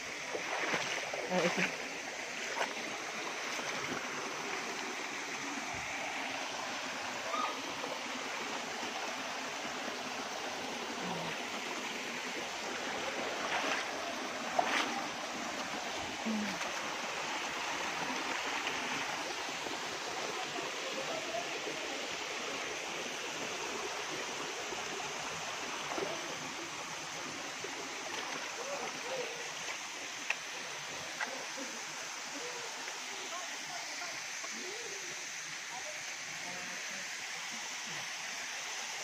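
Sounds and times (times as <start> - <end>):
mountain stream with waterfall: 0.0 - 39.0.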